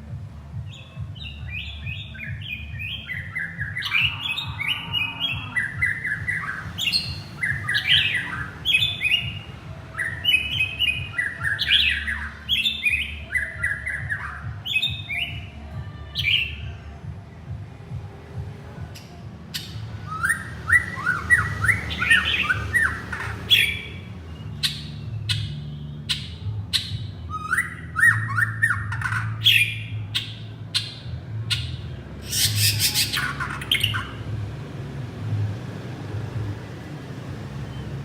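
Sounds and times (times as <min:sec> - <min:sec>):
bird singing: 0:00.5 - 0:17.2, 0:19.0 - 0:34.4.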